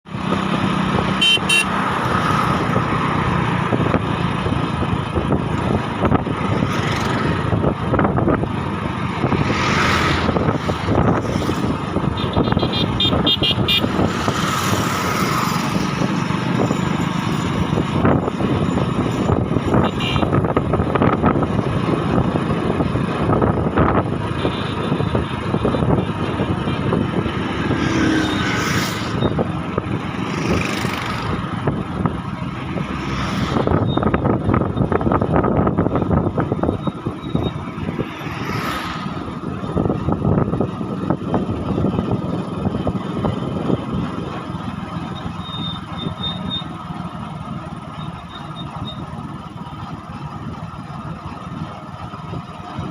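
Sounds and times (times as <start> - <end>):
vehicle engine and road noise: 0.0 - 52.9.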